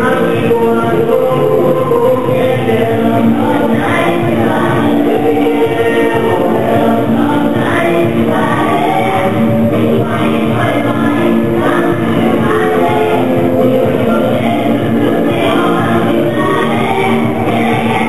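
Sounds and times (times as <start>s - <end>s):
choir singing with music: 0.0s - 18.0s.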